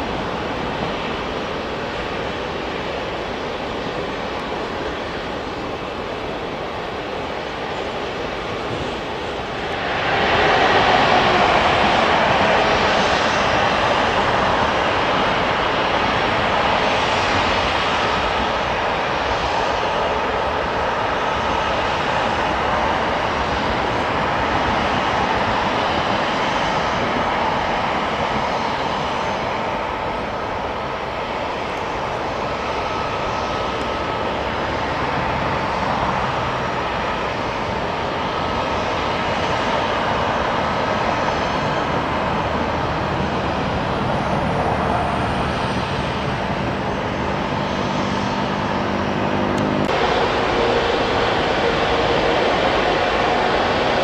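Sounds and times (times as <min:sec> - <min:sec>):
jet engines running with whine: 0:00.0 - 0:54.0.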